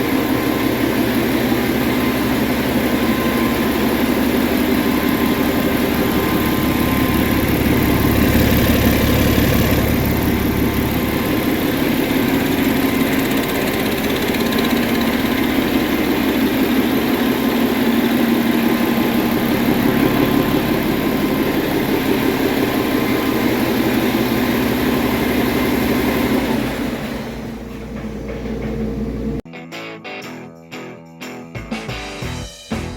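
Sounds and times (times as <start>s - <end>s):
diesel truck engine running: 0.0s - 29.4s.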